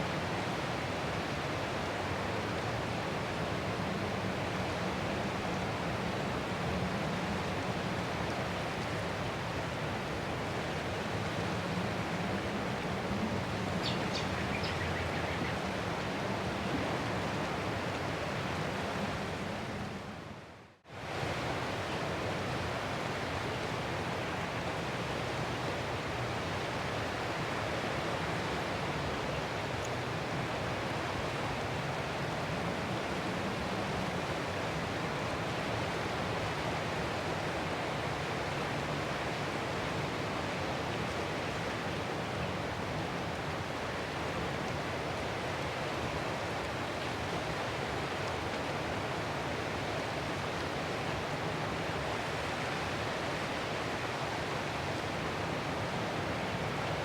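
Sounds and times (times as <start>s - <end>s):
ocean surf washing on shore: 0.0s - 57.0s.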